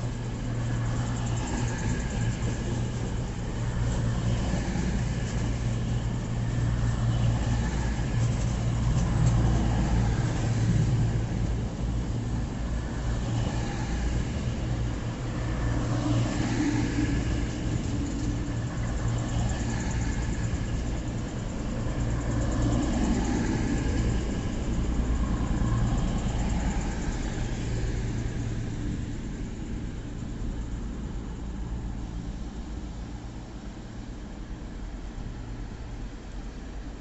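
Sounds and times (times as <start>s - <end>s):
diesel train engine humming: 0.0s - 13.4s, 14.1s - 37.0s.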